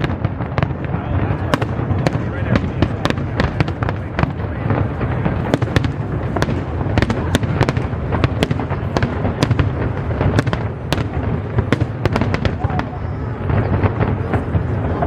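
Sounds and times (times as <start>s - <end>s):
fireworks cracking and crackling: 0.0s - 15.0s
low rumble of fireworks bursts: 0.0s - 15.0s.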